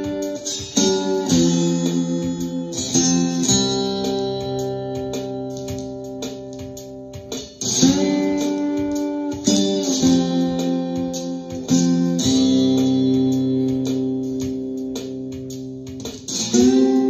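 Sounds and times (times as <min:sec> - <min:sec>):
drum machine beat: 0:00.0 - 0:17.0
slide guitar chords: 0:00.0 - 0:17.0.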